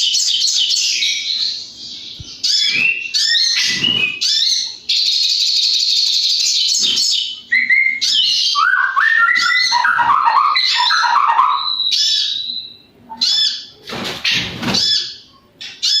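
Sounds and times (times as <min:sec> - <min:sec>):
bird singing crackling song: 0:00.0 - 0:16.0.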